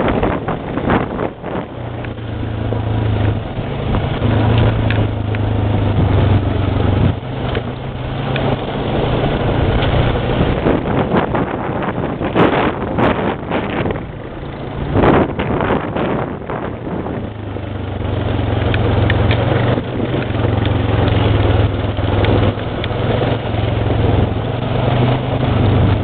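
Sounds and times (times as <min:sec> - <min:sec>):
atv engine running: 0:00.0 - 0:26.0
wind buffeting microphone: 0:00.0 - 0:26.0.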